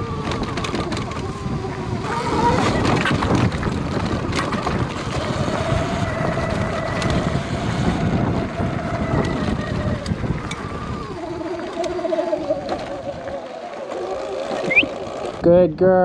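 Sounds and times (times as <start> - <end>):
wind rumble on microphone: 0.0 - 13.6
electric motor whine: 0.0 - 15.5.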